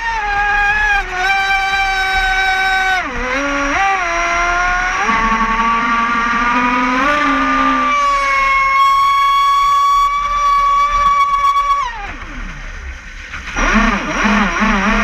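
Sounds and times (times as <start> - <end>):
model boat motor whining: 0.0 - 15.0
water rushing over hull: 0.0 - 15.0.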